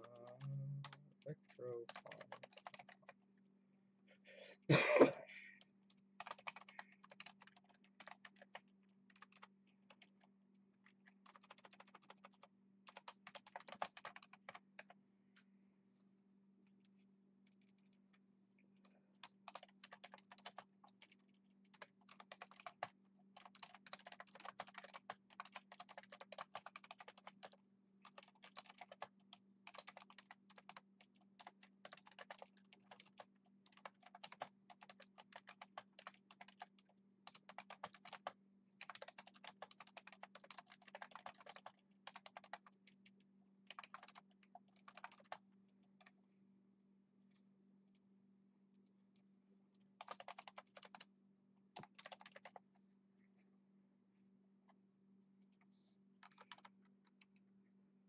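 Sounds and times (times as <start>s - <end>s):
faint keyboard typing: 0.0s - 3.2s, 5.6s - 15.6s, 16.6s - 46.3s, 47.2s - 53.5s, 55.4s - 57.7s.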